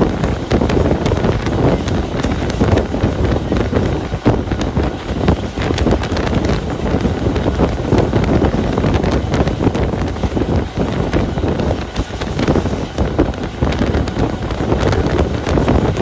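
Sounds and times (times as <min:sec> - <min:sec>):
train wheels clattering on rails: 0:00.0 - 0:16.0
wind buffeting microphone: 0:00.0 - 0:16.0.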